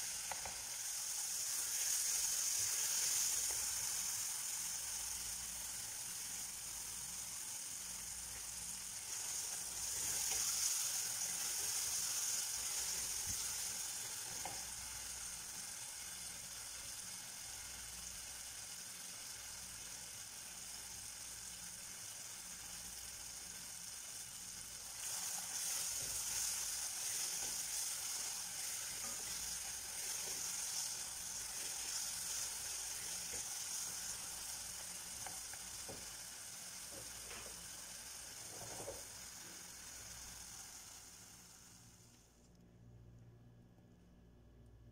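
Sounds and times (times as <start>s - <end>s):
vegetables sizzling in oil: 0.0s - 42.2s.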